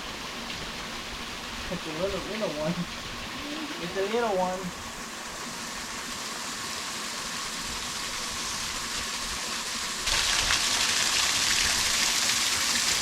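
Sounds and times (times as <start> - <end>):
small waterfall splashing: 0.0 - 13.0.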